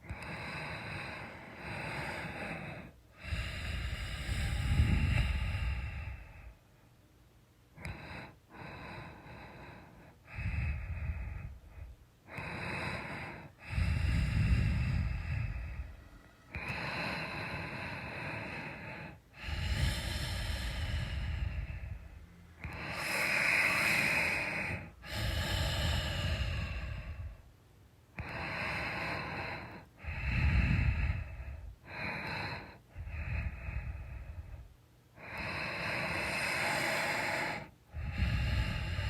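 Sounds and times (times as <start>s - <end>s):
person snoring: 0.0s - 6.5s, 9.0s - 27.4s, 28.2s - 34.6s, 35.2s - 39.0s.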